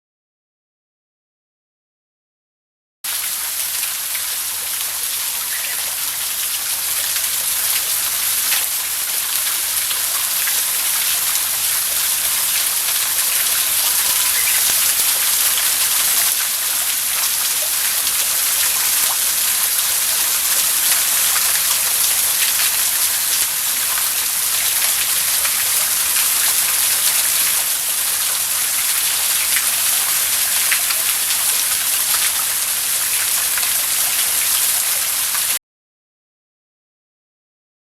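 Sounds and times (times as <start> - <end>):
waterfall splashing: 3.1 - 35.6.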